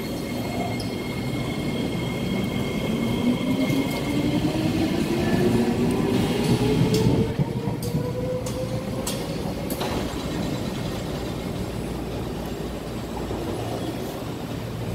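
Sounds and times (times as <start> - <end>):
rumbling train wheels: 0.0 - 14.9.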